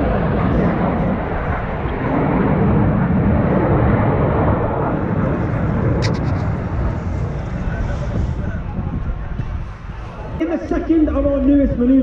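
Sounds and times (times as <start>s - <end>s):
loud jet noise: 0.0s - 12.0s.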